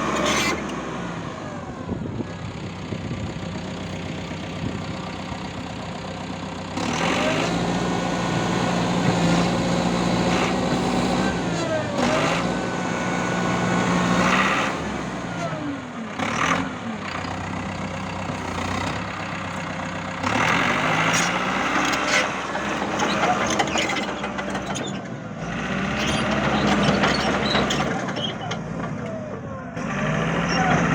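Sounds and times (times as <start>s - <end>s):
bulldozer diesel engine revving: 0.0s - 30.9s.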